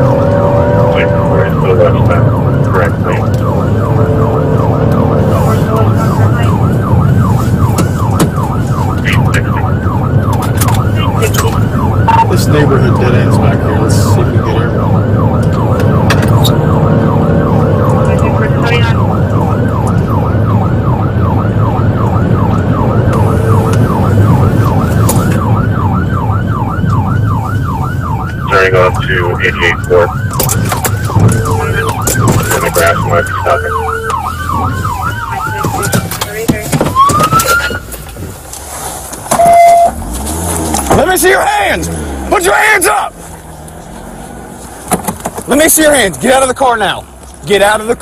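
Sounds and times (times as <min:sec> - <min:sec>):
police siren yelping: 0:00.0 - 0:38.3, 0:39.3 - 0:40.2, 0:41.0 - 0:43.2
car driving rumble: 0:00.0 - 0:48.0.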